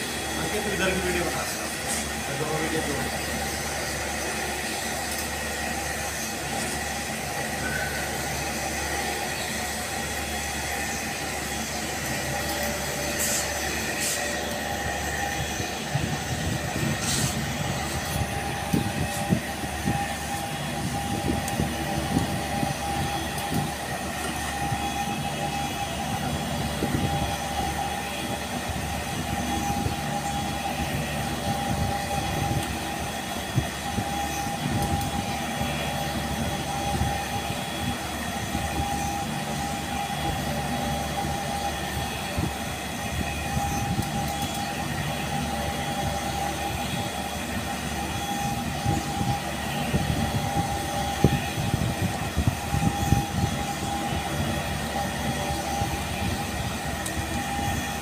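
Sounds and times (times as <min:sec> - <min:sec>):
machinery humming with high whine: 0:00.0 - 0:58.0.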